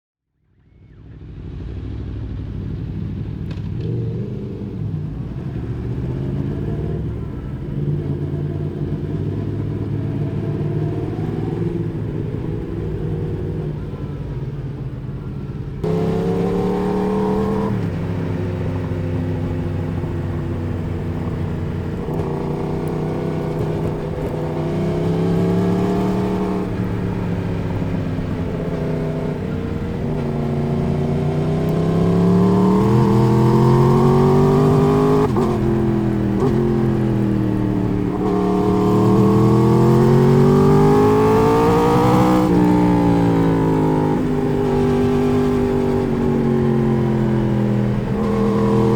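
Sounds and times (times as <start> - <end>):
motorcycle engine revving: 0.8 - 48.9.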